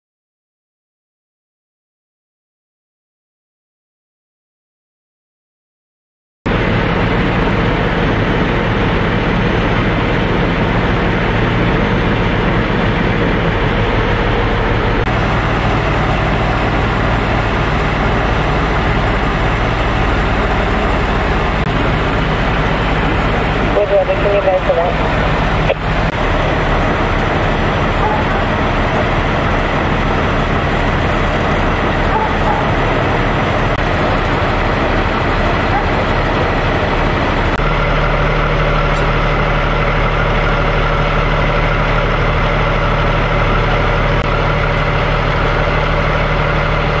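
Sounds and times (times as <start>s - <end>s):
diesel engine idling: 6.5s - 47.0s.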